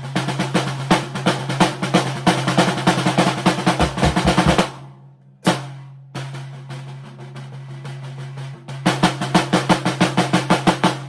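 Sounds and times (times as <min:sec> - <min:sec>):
snare drum rolls: 0:00.0 - 0:04.8, 0:05.5 - 0:11.0.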